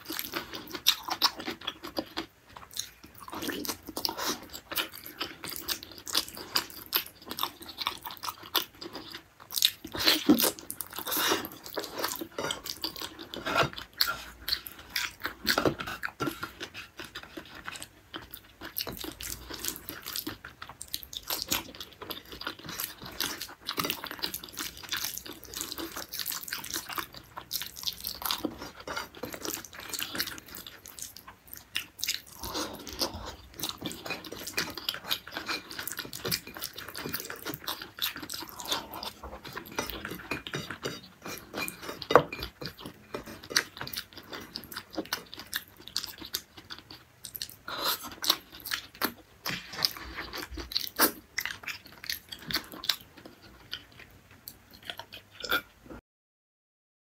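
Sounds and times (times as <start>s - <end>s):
wet chewing and mouth smacks: 0.0s - 55.8s.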